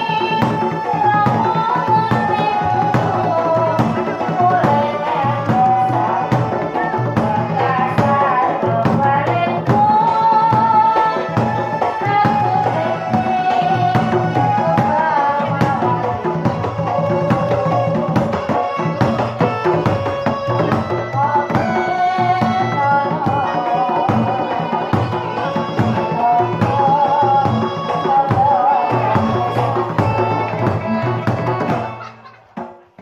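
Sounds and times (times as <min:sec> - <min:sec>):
hand drums: 0:00.0 - 0:33.0.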